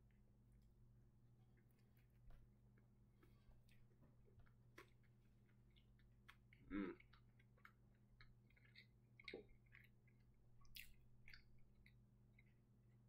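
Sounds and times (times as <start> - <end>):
low steady hum: 0.0 - 13.0
chewing and mouth clicks: 1.5 - 13.0.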